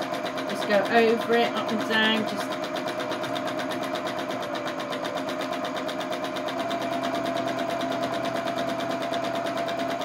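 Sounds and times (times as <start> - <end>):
sewing machine running: 0.0 - 10.0.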